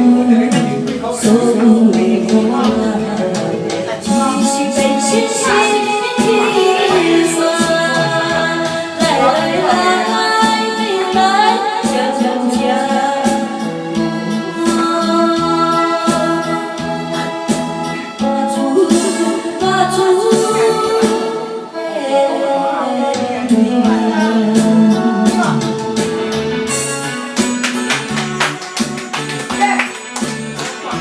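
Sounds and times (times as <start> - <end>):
person singing: 0.0 - 26.9
instrumental backing with beat: 0.0 - 31.0.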